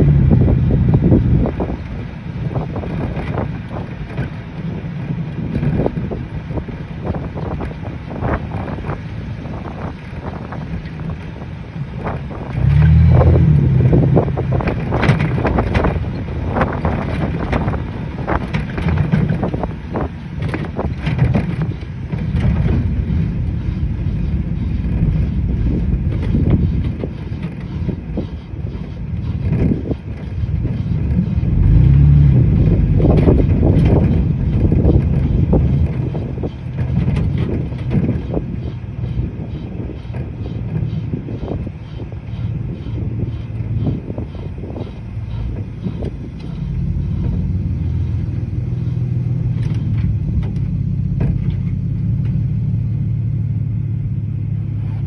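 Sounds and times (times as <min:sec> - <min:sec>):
vehicle grinding rumble: 0:00.0 - 0:55.0
wind buffeting microphone: 0:00.0 - 0:55.0.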